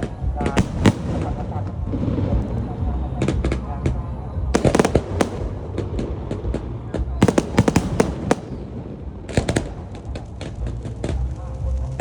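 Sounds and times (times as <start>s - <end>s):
fireworks bangs and crackles: 0.0s - 12.0s
steady low rumble: 0.0s - 12.0s.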